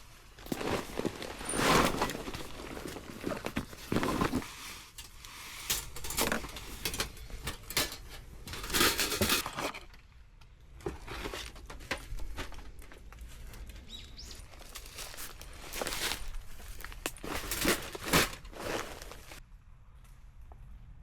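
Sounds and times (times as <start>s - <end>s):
rustling and crinkling: 0.0s - 19.4s.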